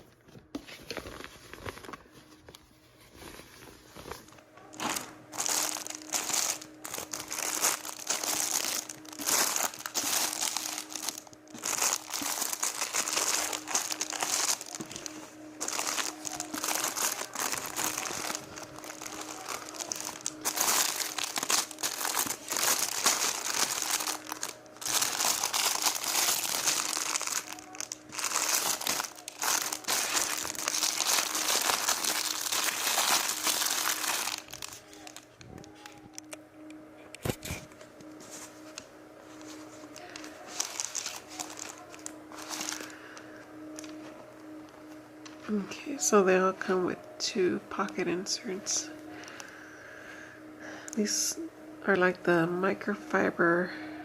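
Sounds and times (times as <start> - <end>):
plastic packaging crinkling: 0.2 - 46.8.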